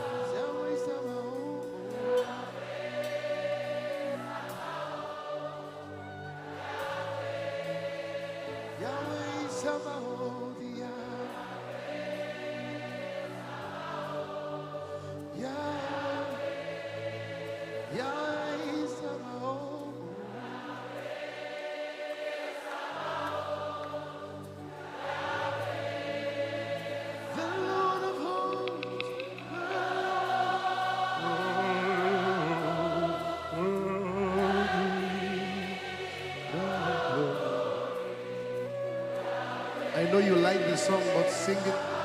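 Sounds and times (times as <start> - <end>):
choir singing gospel song: 0.0 - 42.0
sustained instrumental accompaniment: 0.0 - 42.0.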